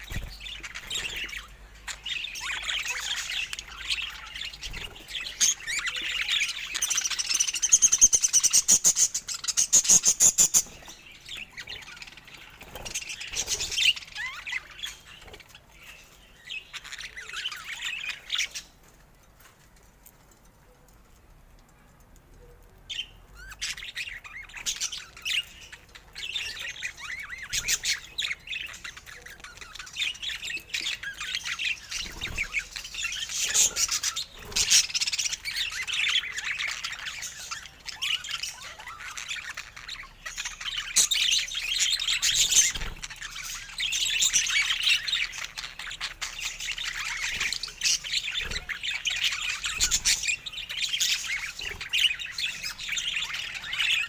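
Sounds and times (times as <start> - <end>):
budgerigars chattering and chirping: 0.0 - 18.9, 22.9 - 54.0.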